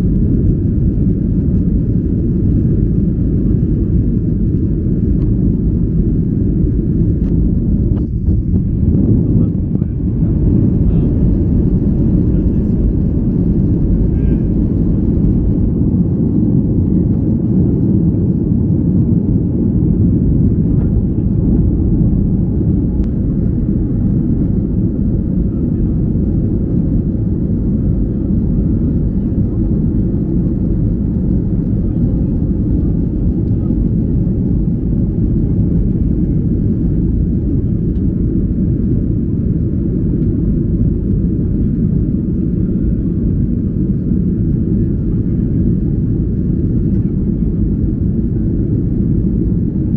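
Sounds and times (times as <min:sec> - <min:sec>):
airplane cabin rumble: 0:00.0 - 0:49.9.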